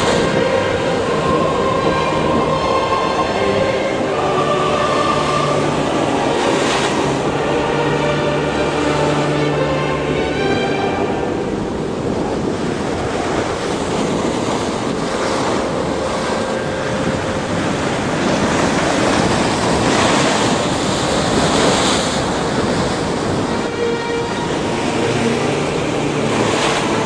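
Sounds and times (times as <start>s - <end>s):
storm waves breaking on rocks: 0.0s - 9.6s, 10.9s - 27.0s.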